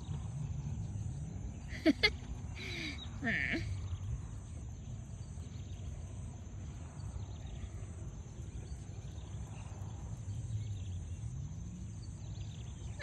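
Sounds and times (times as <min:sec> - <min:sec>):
insects droning: 0:00.0 - 0:13.0
wind rumble on microphone: 0:00.0 - 0:13.0.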